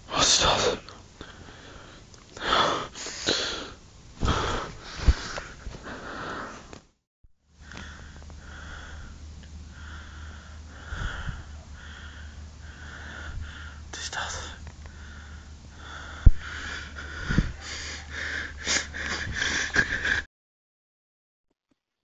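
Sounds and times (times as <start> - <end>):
steady low hum: 0.0 - 20.3
person sniffing and breathing: 1.2 - 6.8, 7.6 - 20.3.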